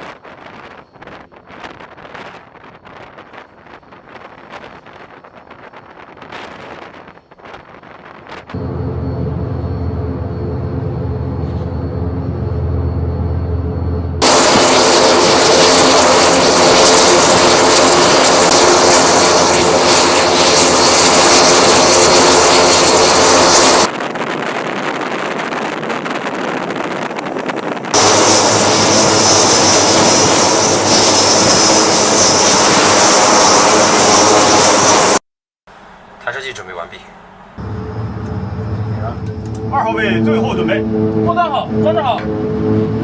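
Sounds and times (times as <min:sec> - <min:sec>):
turboprop engines roaring: 0:00.0 - 0:43.0
propeller hum: 0:00.1 - 0:35.2, 0:35.8 - 0:43.0.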